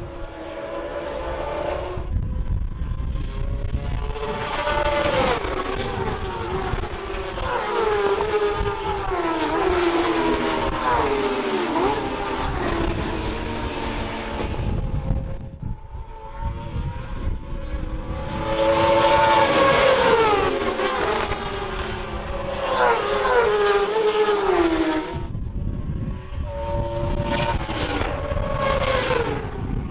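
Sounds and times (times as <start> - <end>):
racing motorcycles passing: 0.0 - 29.9.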